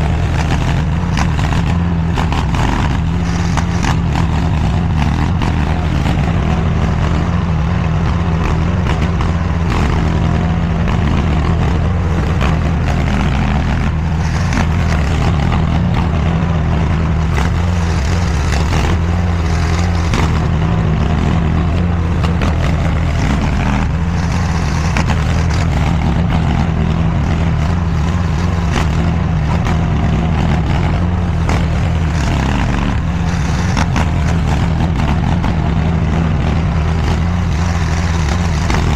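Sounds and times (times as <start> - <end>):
mini skid steer engine running: 0.0 - 38.9.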